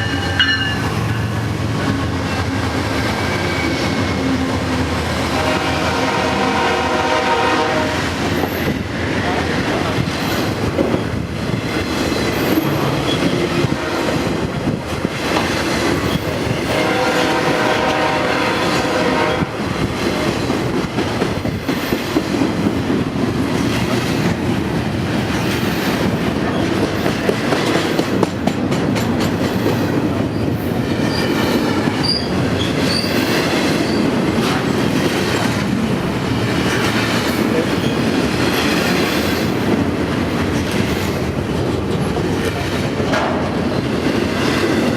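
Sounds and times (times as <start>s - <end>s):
train wheels clattering on rails: 0.0s - 44.9s.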